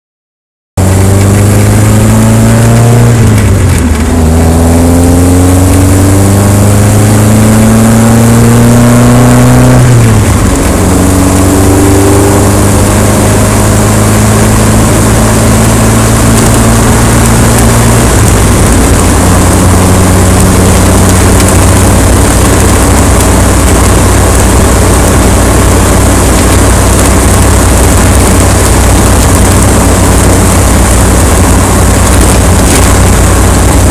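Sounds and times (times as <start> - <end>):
vehicle engine accelerating: 0.8 - 33.9
wind noise: 0.8 - 33.9.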